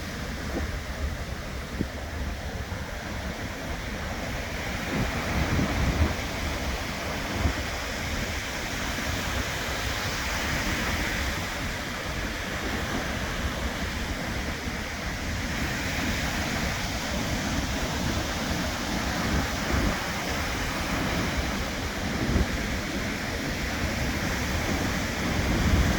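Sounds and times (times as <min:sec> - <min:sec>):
waves breaking: 0:00.0 - 0:25.9.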